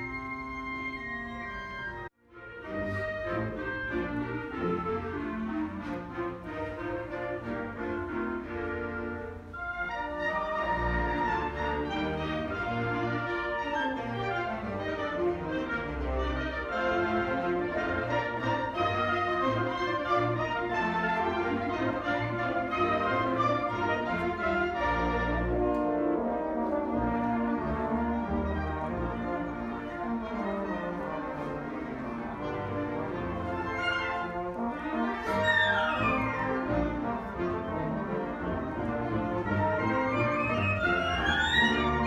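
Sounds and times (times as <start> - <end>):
french horn: 0.0 - 42.0
orchestral music with brass: 0.0 - 42.0.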